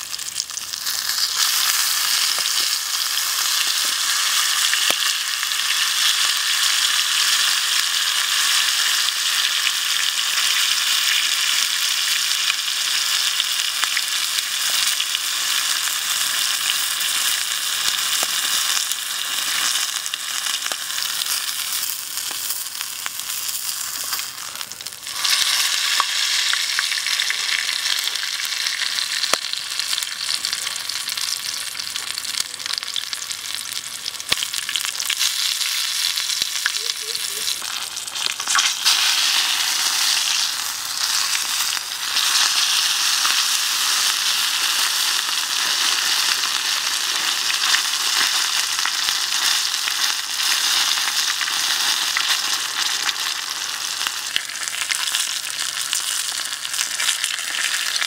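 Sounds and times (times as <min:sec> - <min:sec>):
chicken wings sizzling in hot oil: 0:00.0 - 0:58.0.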